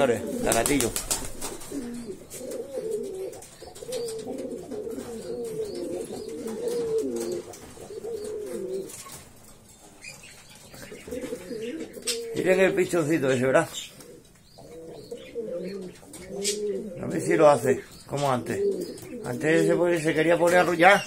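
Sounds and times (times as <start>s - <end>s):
pigeon cooing: 0.0s - 9.2s, 10.6s - 21.0s.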